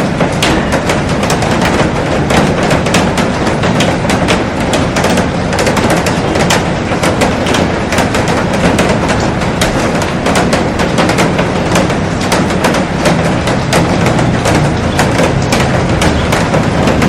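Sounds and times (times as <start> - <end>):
raindrops hitting glass: 0.0 - 17.0.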